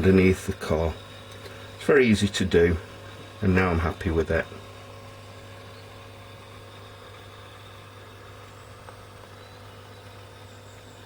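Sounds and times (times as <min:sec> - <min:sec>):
refrigeration unit drone through small speaker: 0:00.0 - 0:11.0.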